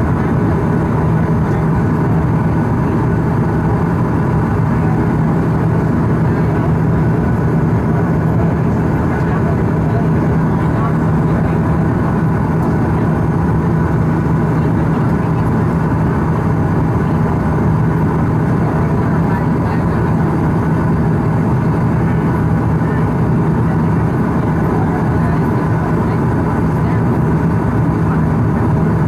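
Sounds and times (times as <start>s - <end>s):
constant low hum: 0.0s - 29.0s
turboprop engines droning: 0.0s - 29.0s.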